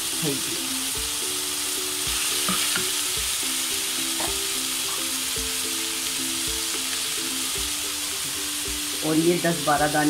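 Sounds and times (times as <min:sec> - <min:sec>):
background music with soft beat: 0:00.0 - 0:10.0
food sizzling in a pan: 0:00.0 - 0:10.0.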